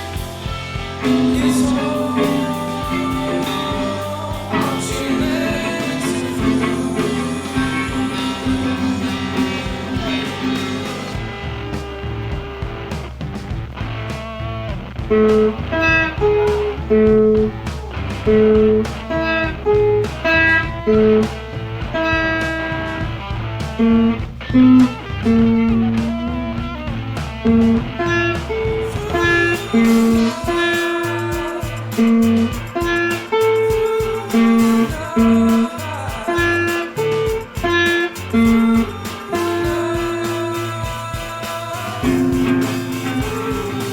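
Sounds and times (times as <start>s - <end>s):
picked guitar melody: 0.0s - 43.9s.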